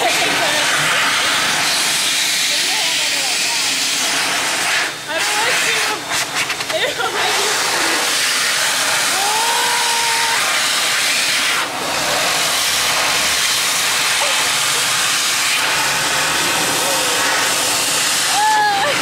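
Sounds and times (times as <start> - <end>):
electric hand dryer blowing: 0.0 - 19.0.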